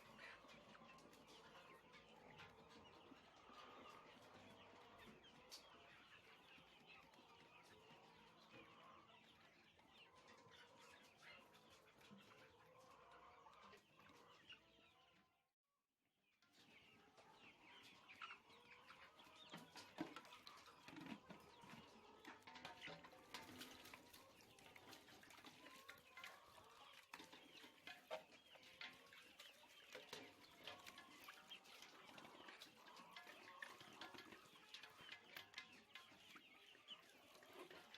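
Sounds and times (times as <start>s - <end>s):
chickens clucking: 0.0s - 15.5s, 16.4s - 37.9s.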